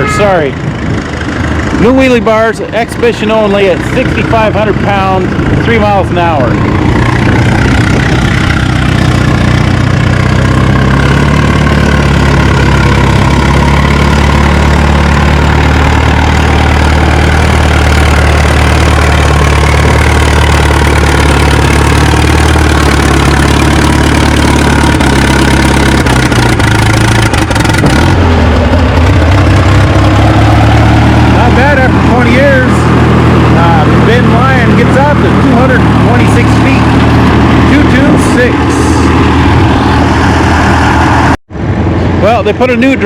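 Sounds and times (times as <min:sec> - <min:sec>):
tractor engine running under load: 0:00.0 - 0:43.0.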